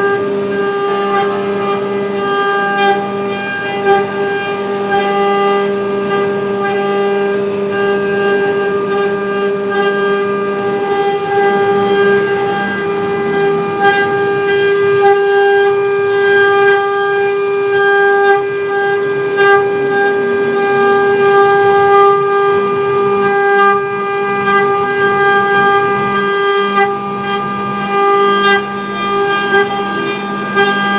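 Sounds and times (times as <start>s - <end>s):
router bits cutting: 0.0s - 30.9s
spindle motors whining: 0.0s - 30.9s.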